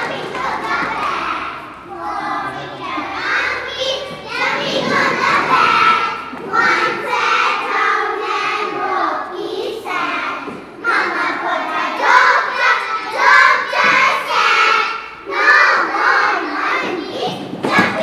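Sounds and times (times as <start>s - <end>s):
children singing in unison: 0.0s - 18.0s.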